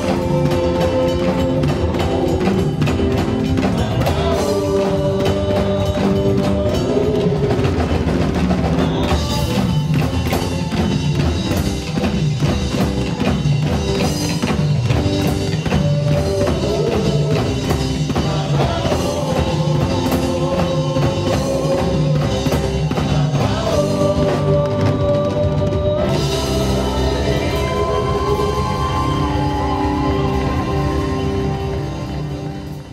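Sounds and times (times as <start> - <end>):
people singing: 0.0 - 14.2, 14.9 - 32.7
drum kit beat: 0.0 - 32.9
gospel band playing: 0.0 - 32.9.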